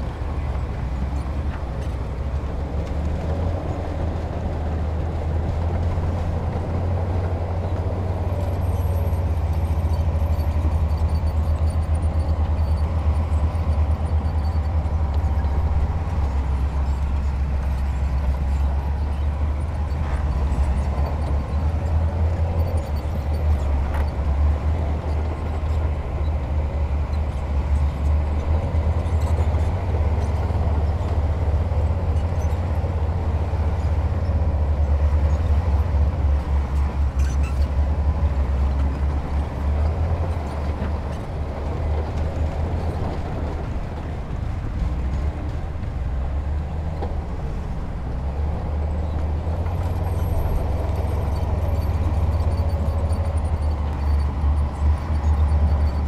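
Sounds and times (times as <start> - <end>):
diesel machinery rumbling: 0.0 - 56.0.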